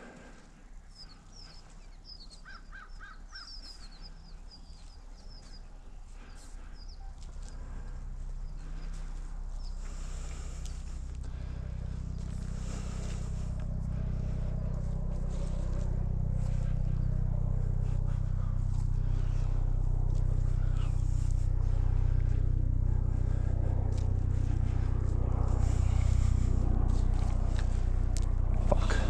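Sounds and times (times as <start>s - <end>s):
low engine hum: 0.0s - 29.0s.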